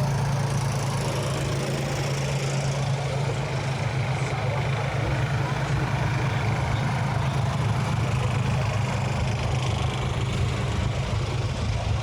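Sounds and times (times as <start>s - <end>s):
street traffic noise: 0.0s - 12.0s
vehicle engine idling: 0.0s - 12.0s.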